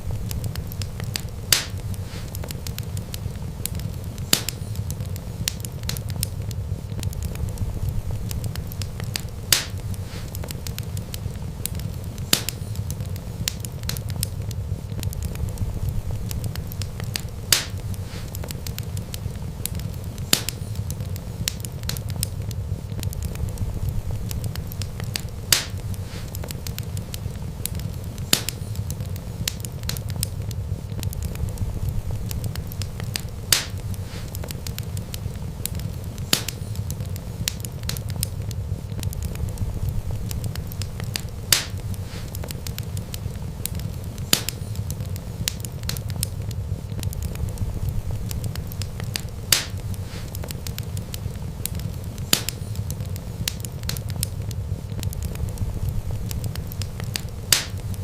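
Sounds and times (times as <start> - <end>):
sharp pops of fire: 0.0 - 58.0
steady low rumble: 0.0 - 58.0
wood fire crackling: 0.0 - 58.0.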